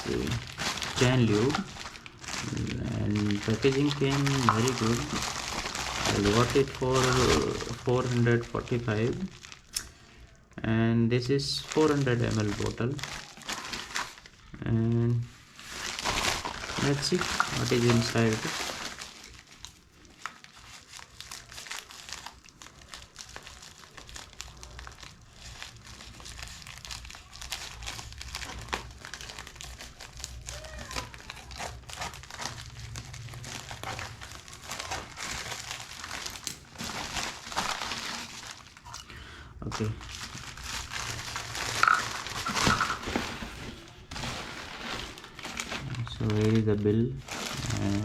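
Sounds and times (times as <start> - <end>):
packaging crinkling and tearing: 0.0 - 48.0.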